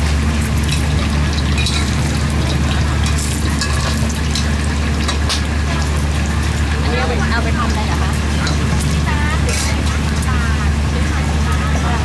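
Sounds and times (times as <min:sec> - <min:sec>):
egg sizzling in hot oil: 0:00.0 - 0:12.0.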